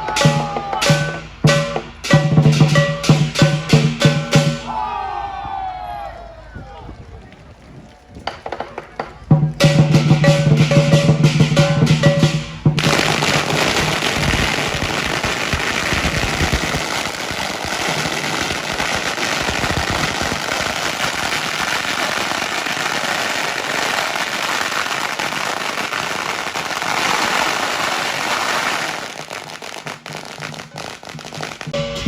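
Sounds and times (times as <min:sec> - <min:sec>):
firecrackers crackling: 0:00.0 - 0:04.9, 0:06.8 - 0:32.0.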